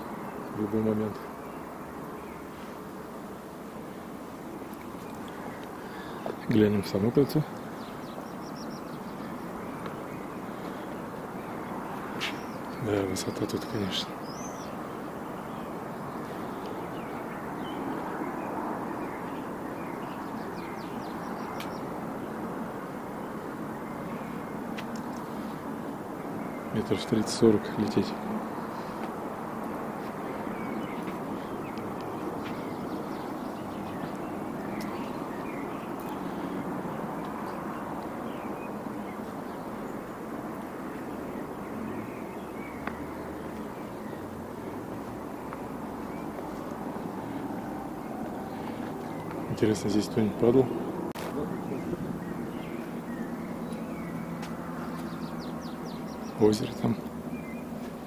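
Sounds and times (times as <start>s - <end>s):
steady rushing outdoor noise: 0.0s - 58.0s.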